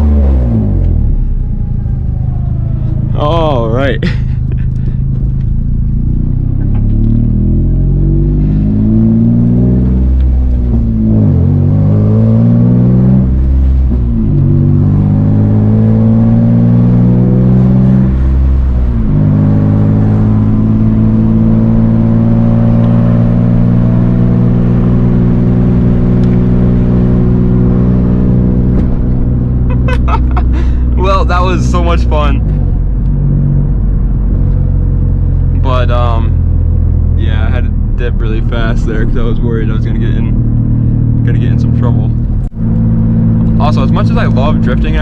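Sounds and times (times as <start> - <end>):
car engine revving hard: 6.1 - 32.6, 33.2 - 45.0.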